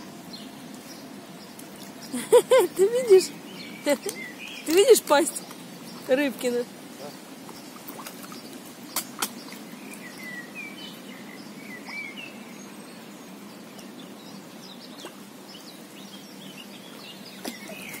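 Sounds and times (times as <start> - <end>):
low outdoor background hum: 0.0 - 18.0
small birds chirping: 0.0 - 18.0.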